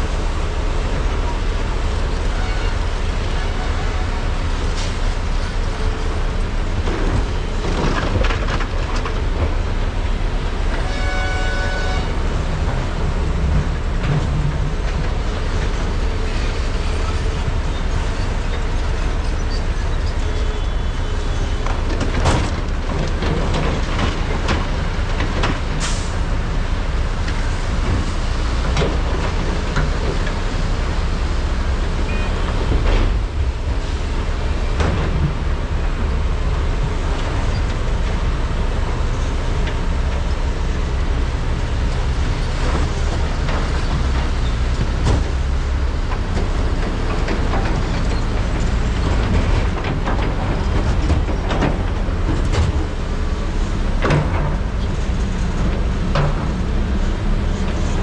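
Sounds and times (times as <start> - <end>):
excavator diesel engines rumbling: 0.0 - 58.0.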